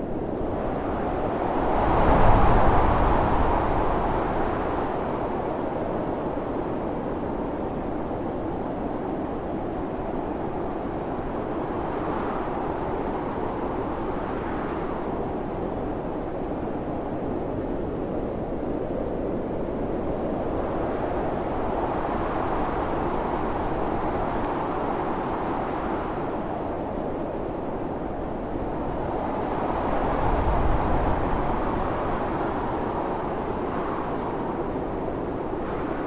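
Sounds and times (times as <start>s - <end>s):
strong blizzard wind gusting: 0.0s - 36.0s.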